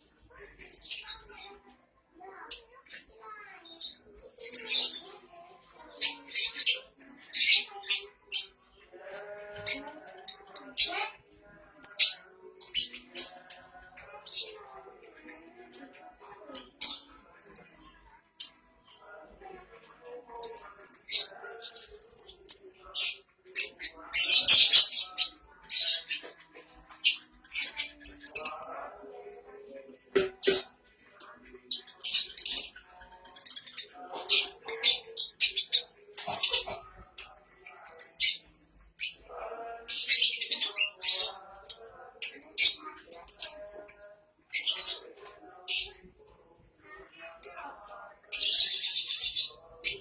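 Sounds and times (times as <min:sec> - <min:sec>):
birds chirping and squeaking: 0:00.0 - 0:50.0.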